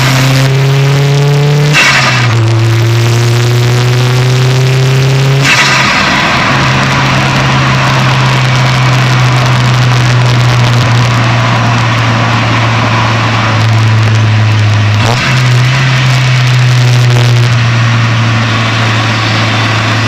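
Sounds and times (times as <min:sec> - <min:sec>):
turbocharged car engine running: 0:00.0 - 0:20.0.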